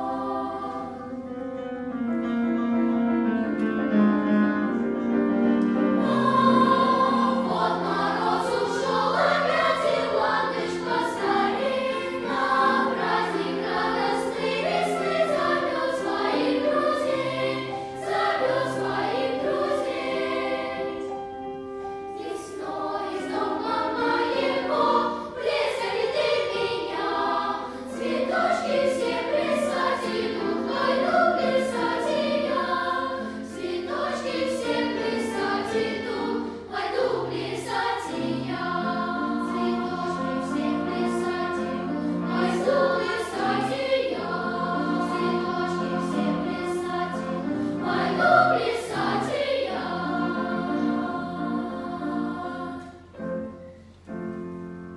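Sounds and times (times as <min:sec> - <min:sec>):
children's choir singing: 0:00.0 - 0:54.9
piano accompaniment: 0:00.0 - 0:54.9.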